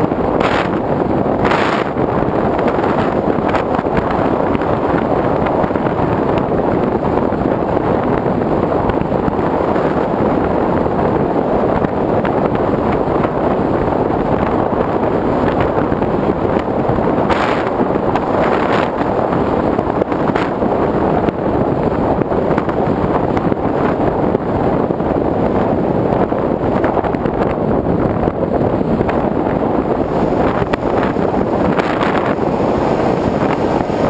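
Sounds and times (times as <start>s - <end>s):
airflow buffeting camera: 0.0s - 34.0s.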